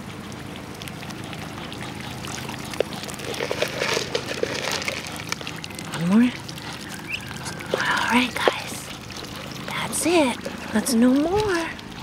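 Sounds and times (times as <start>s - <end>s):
ducks slurping in water: 0.0s - 12.0s.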